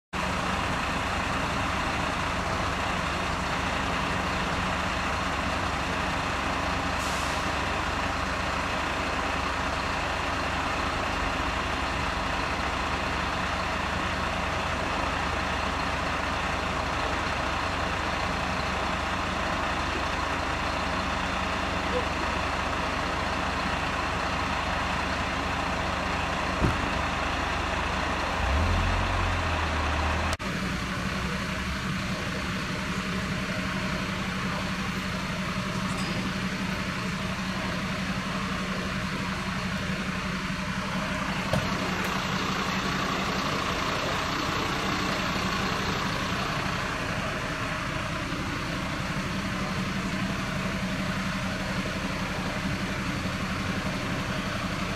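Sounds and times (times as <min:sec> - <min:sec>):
diesel engines idling: 0:00.2 - 0:54.9
engine hum with low drone: 0:00.2 - 0:54.9.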